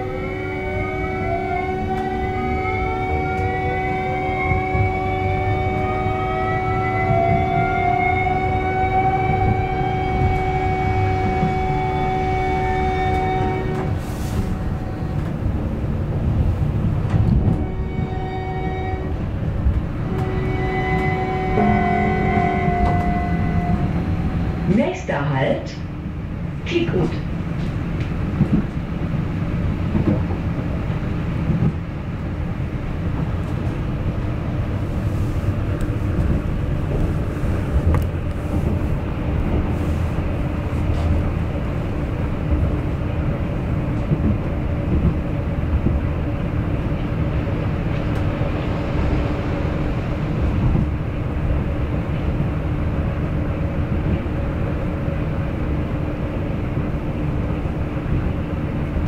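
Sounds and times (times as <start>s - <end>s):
metro train wheels rumbling: 0.0s - 59.0s
train drive hum: 0.0s - 59.0s.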